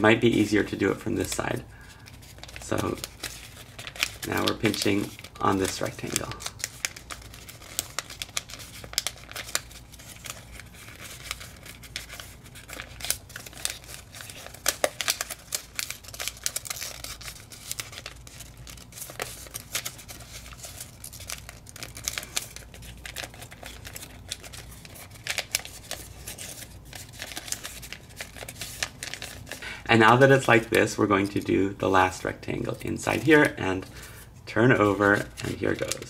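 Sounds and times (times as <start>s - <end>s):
folded paper crinkling: 0.0s - 36.0s.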